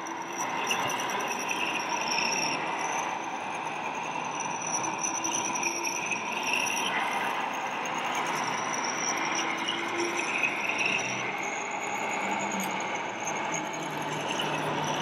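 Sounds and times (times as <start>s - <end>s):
faint thin whines: 0.0s - 15.0s
model vehicles running: 0.4s - 15.0s.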